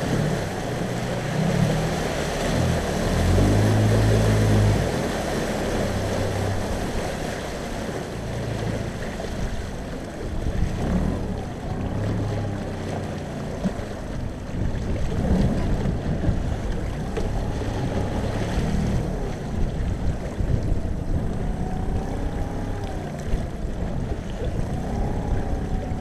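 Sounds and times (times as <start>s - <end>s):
boat engine running: 0.0s - 26.0s
water slapping hull: 0.0s - 26.0s
wind buffeting microphone: 0.0s - 26.0s.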